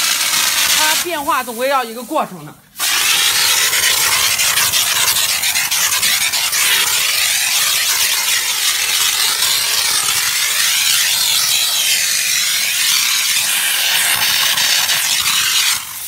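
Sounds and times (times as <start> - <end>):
steam jet hissing: 0.0 - 16.0.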